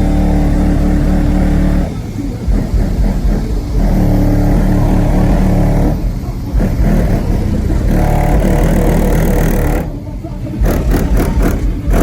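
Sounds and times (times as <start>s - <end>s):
pickup truck engine running loud: 0.0s - 12.0s.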